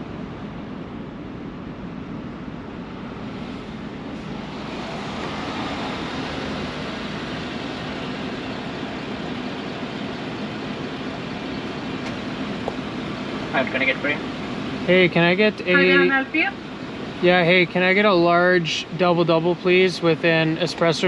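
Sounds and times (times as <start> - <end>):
pickup truck engine: 0.0 - 21.0.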